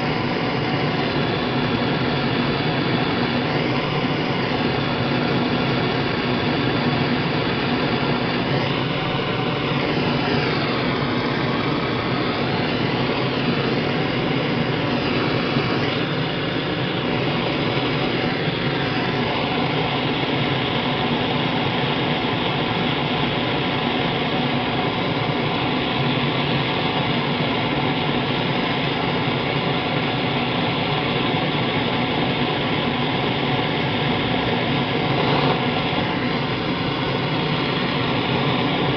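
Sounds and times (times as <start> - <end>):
propane torch burning: 0.0 - 38.9.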